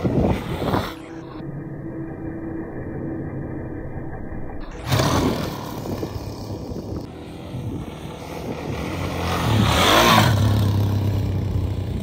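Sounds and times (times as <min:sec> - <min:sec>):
dirt bike engine droning: 0:00.0 - 0:12.0.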